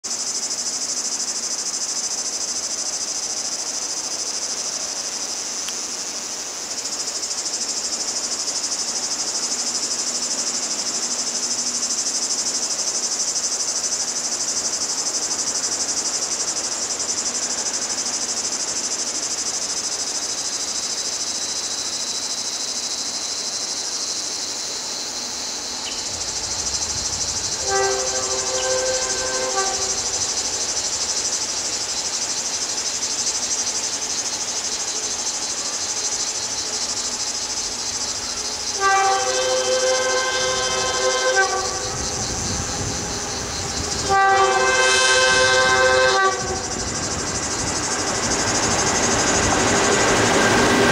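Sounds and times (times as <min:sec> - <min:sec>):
insect chorus shrilling: 0:00.0 - 0:50.9.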